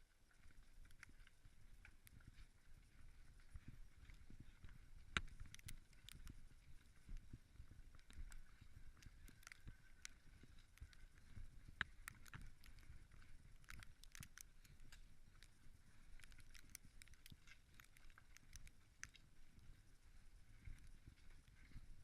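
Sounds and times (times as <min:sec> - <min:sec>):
horse hooves clopping: 0:00.0 - 0:22.0.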